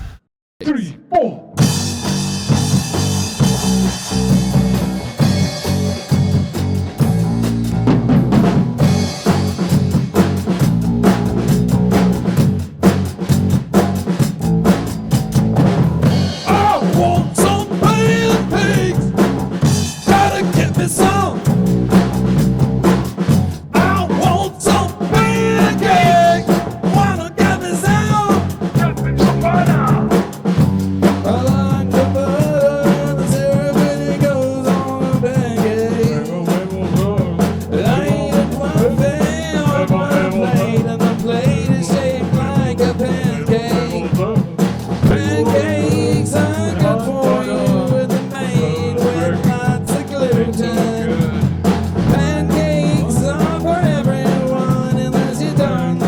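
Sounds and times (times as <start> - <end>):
rock band playing instrumental: 1.6 - 56.0.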